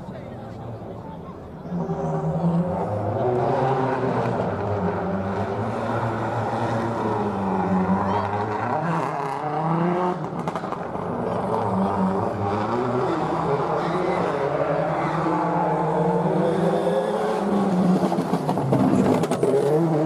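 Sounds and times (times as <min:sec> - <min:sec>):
rally car engine revving: 0:01.6 - 0:20.0.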